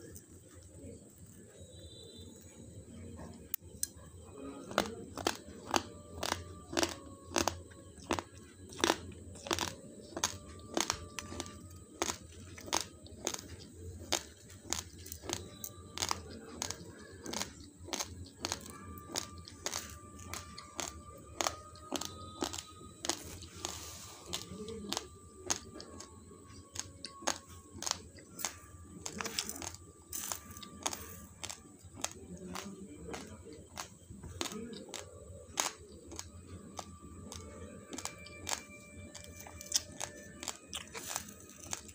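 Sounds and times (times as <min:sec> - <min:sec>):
raw rice being chewed: 0:03.2 - 0:41.9.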